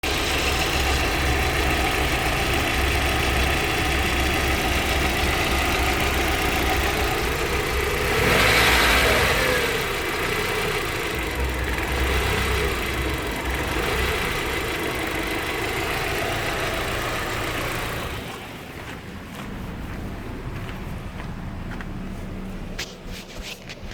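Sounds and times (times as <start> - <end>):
car engine idling and revving: 0.0 - 23.9.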